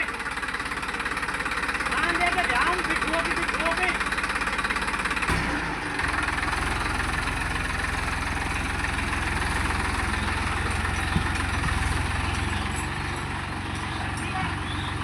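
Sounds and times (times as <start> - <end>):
tractor diesel engine chugging: 0.0 - 15.0.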